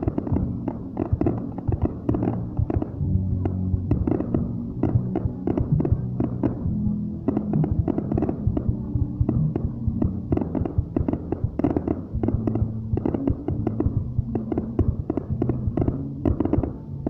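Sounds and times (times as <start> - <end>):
fireworks bangs and cracks: 0.0 - 16.8
steady low hum: 0.0 - 17.0.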